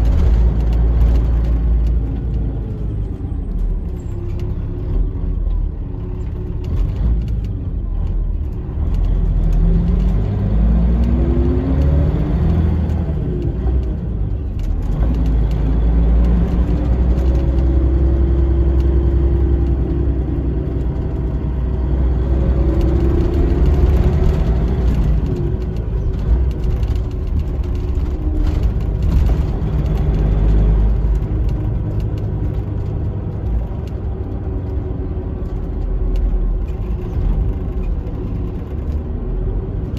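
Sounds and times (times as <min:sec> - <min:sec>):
bus diesel engine from inside: 0:00.0 - 0:39.9.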